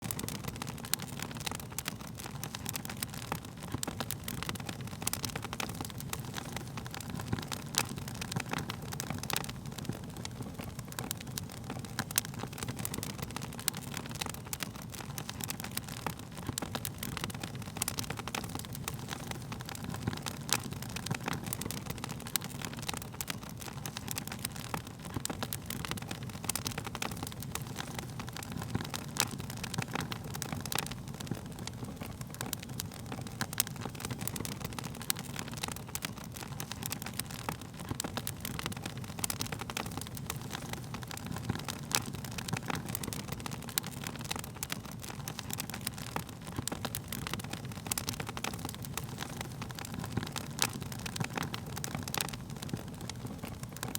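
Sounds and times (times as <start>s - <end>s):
burning wood crackling and popping: 0.0s - 53.9s
fire flames rumbling: 0.1s - 53.9s.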